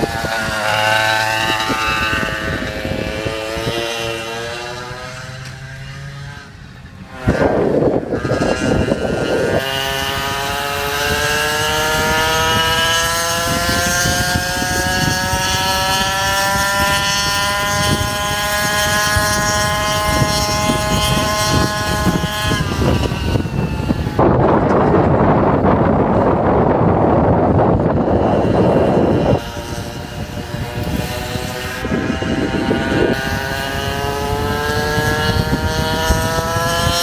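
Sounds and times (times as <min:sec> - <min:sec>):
scooter engine buzzing whine: 0:00.0 - 0:37.0
wind on microphone: 0:00.0 - 0:37.0.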